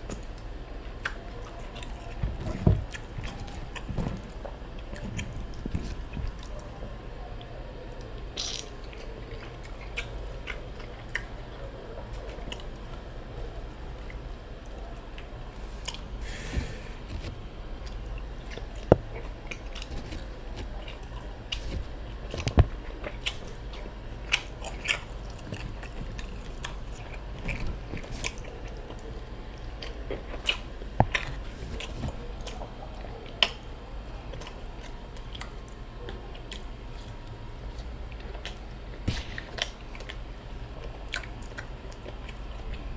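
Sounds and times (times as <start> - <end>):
chewing and biting food: 0.0 - 42.9.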